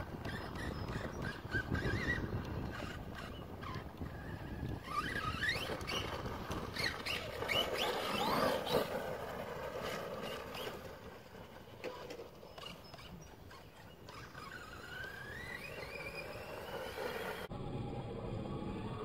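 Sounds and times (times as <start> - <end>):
rc truck electric motor whining: 0.0 - 19.0.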